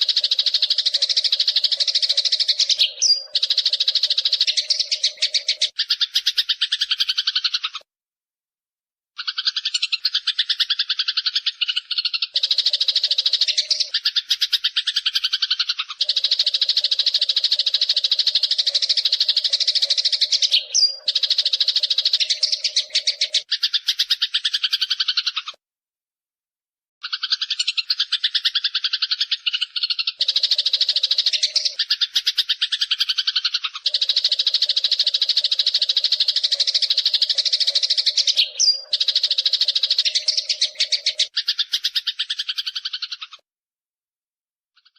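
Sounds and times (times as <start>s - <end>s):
sparrow chirping: 0.0s - 7.8s, 9.2s - 25.6s, 27.0s - 43.4s.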